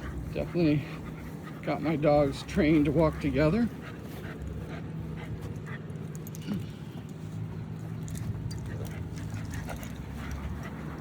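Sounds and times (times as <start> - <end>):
dogs panting: 0.0 - 11.0
steady low hum: 0.0 - 11.0.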